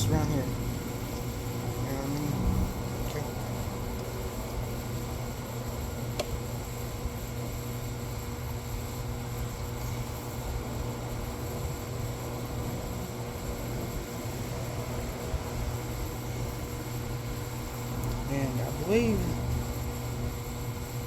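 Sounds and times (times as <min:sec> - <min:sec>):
background hum and hiss: 0:00.0 - 0:21.0.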